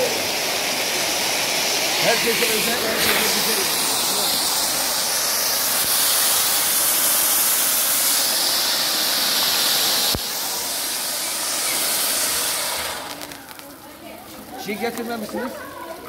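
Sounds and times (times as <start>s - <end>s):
sparkler fountains hissing: 0.0s - 16.0s.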